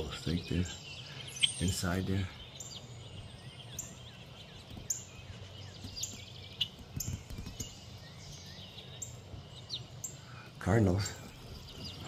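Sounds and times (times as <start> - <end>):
songbirds chirping and calling: 0.0 - 12.0.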